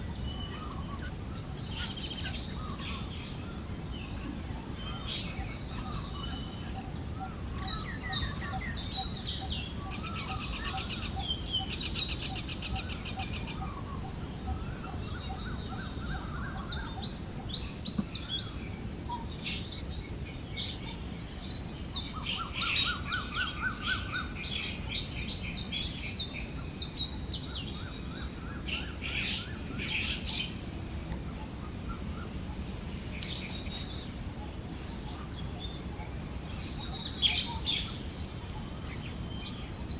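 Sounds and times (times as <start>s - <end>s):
forest birds chirping: 0.0s - 39.9s
low rumble of breeze: 0.0s - 39.9s.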